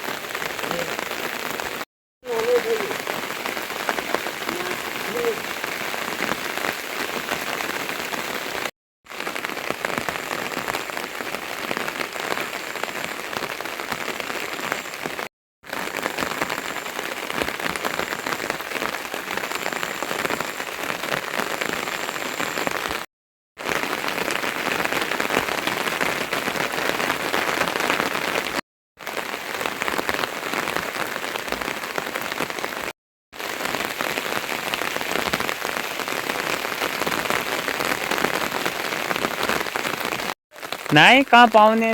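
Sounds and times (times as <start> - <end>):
steady rain patter: 0.0 - 41.9.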